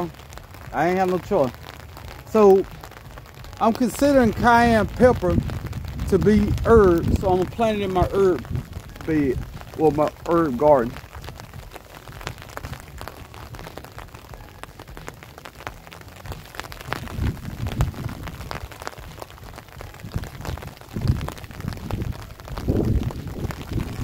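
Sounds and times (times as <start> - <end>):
rain on an umbrella: 0.0 - 24.0.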